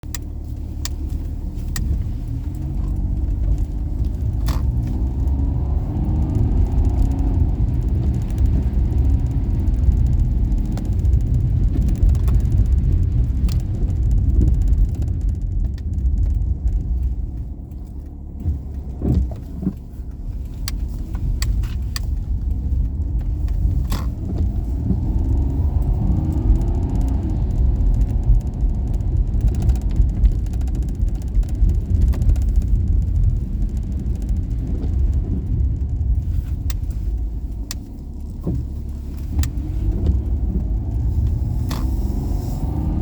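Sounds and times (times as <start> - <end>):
car engine: 0.0 - 43.0
road rumble: 0.0 - 43.0.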